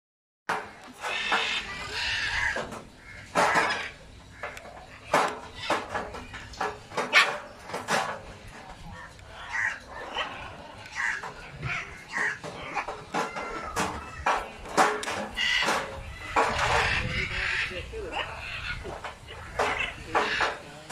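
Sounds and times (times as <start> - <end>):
macaws squawking: 0.5 - 20.9.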